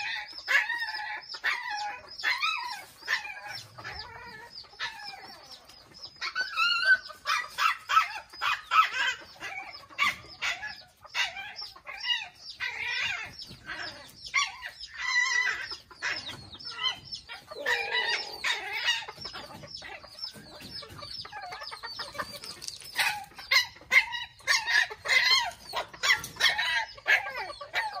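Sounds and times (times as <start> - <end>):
chickens clucking and calling: 0.0 - 28.0.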